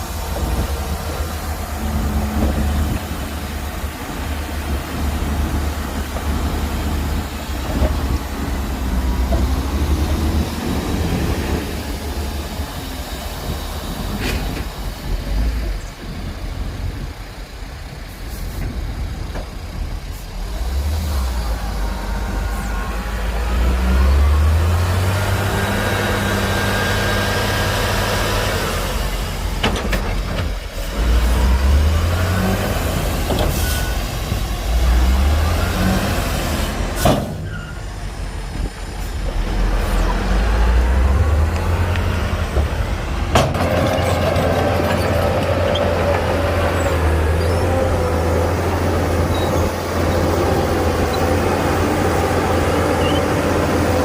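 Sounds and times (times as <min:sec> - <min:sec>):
heavy diesel machinery engine: 0:00.0 - 0:54.0.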